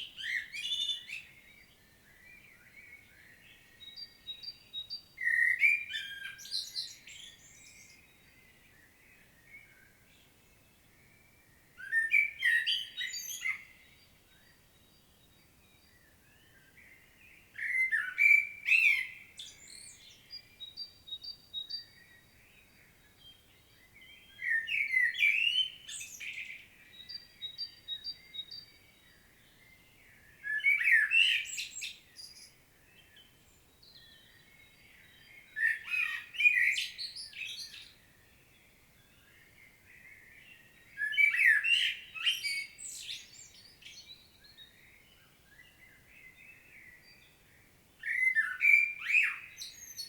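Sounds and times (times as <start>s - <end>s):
blackbird singing: 0.0s - 50.0s.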